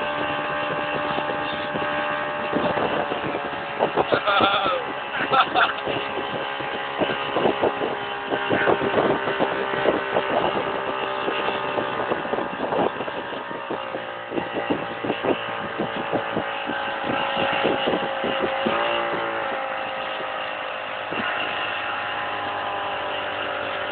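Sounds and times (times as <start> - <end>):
motorboat engine: 0.0 - 23.9
rushing wake water: 0.0 - 23.9.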